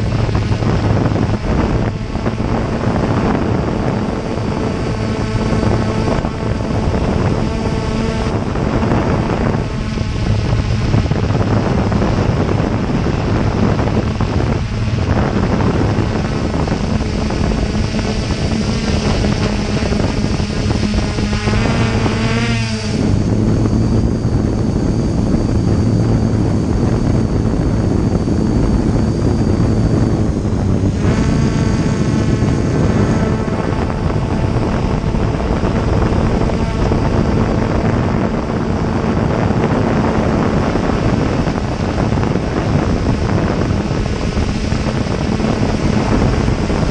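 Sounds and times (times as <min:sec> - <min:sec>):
drone propellers whirring: 0:00.0 - 0:46.9
wind buffeting microphone: 0:00.0 - 0:46.9.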